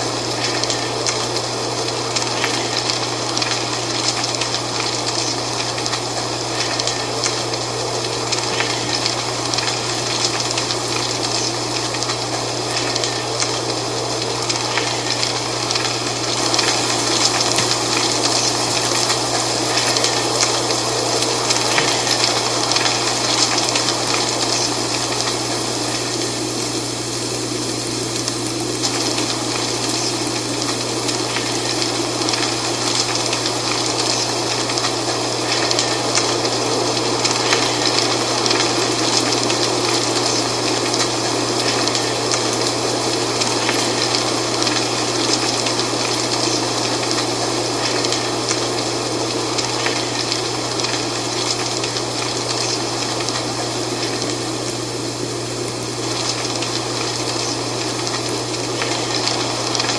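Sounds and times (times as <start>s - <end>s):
dry leaves rustling in wind: 0.0s - 59.9s.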